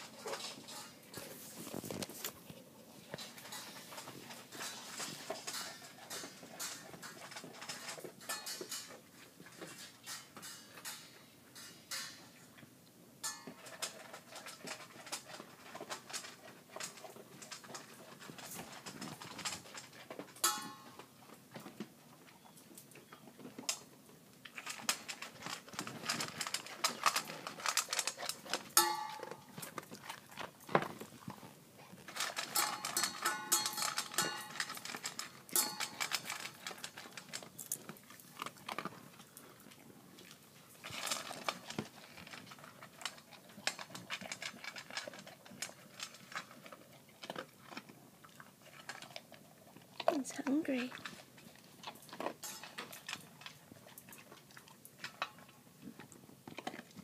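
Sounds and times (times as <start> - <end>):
dog crunching dry kibble: 0.0 - 57.0.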